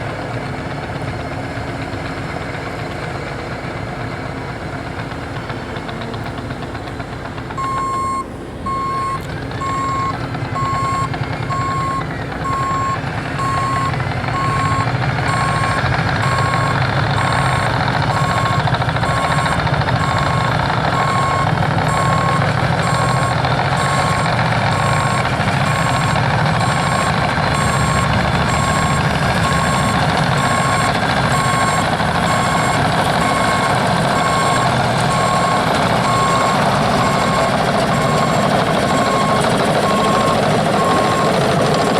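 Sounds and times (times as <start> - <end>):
diesel engine under load: 0.0 - 41.9
reversing alarm beeping: 7.6 - 41.9.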